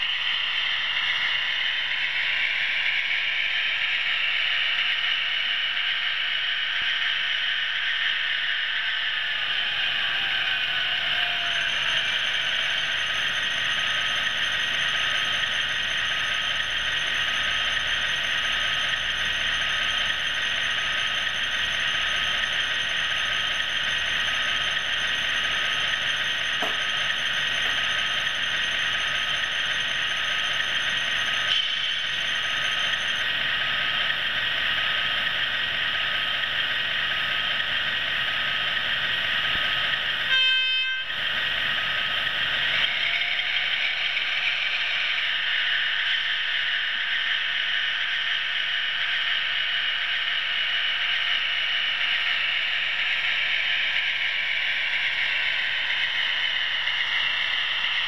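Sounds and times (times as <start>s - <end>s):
model train hiss and whir: 0.0s - 58.0s.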